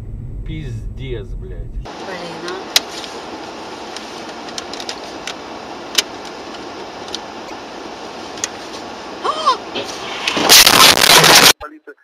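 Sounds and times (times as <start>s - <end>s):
car engine idling in cabin: 0.0s - 10.3s.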